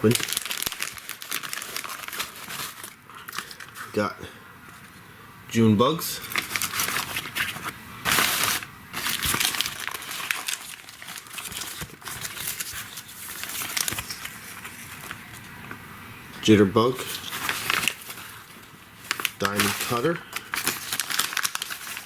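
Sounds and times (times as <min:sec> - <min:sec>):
packaging crinkling and rustling: 0:00.0 - 0:04.0, 0:06.2 - 0:15.8, 0:17.0 - 0:22.0.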